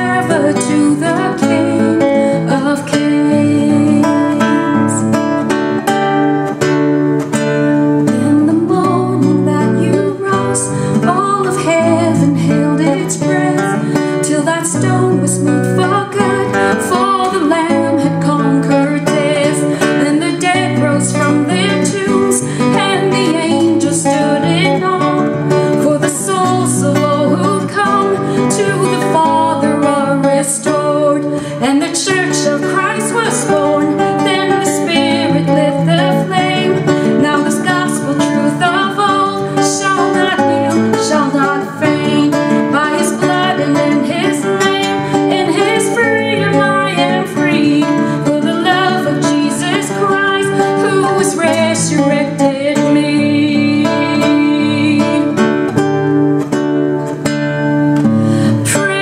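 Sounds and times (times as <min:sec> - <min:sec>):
woman singing: 0:00.0 - 0:06.6, 0:07.2 - 0:56.0, 0:58.4 - 0:59.0
fingerpicked classical guitar: 0:00.0 - 0:59.0.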